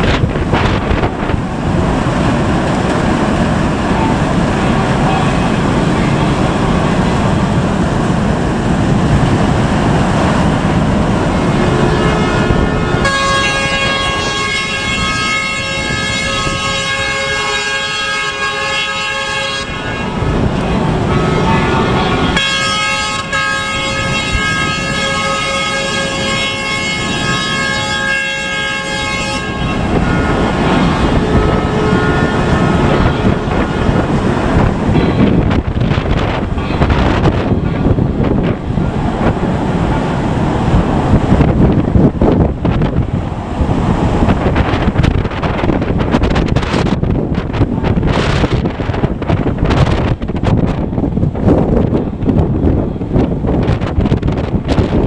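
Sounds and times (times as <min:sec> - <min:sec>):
ships' horns sounding: 0:00.0 - 0:55.0
steady rushing noise: 0:00.0 - 0:55.0
wind buffeting microphone: 0:00.0 - 0:55.0.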